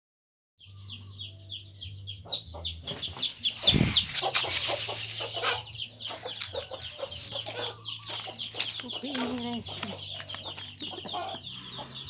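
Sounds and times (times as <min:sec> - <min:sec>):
chicks peeping: 0:00.6 - 0:12.0
hen clucking: 0:02.0 - 0:12.0.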